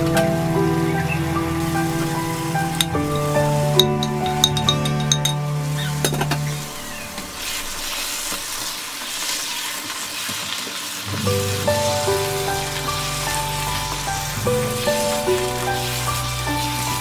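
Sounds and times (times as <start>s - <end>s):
background music: 0.0s - 8.6s, 11.1s - 17.0s
vegetables sizzling in a frying pan: 0.2s - 3.8s, 5.6s - 17.0s.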